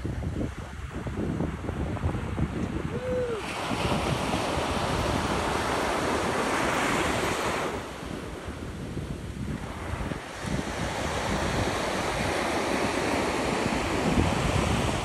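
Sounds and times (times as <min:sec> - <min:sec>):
wind rumble on microphone: 0:00.0 - 0:15.0
ocean surf breaking: 0:02.0 - 0:15.0.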